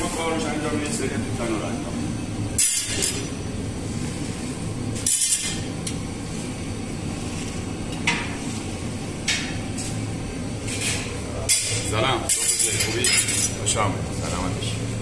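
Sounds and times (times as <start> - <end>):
bakery machine hum: 0.0 - 15.0.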